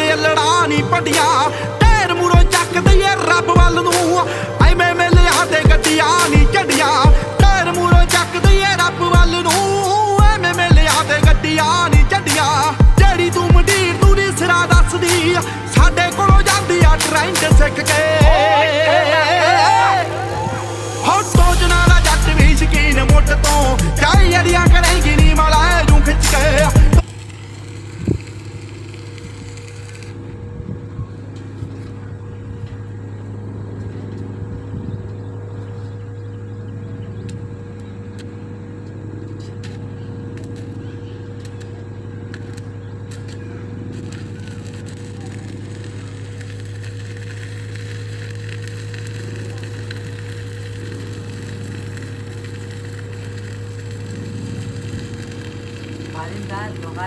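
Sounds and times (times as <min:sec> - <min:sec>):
sharp welding crackles: 0:00.0 - 0:57.0
welding machine humming: 0:00.0 - 0:57.0.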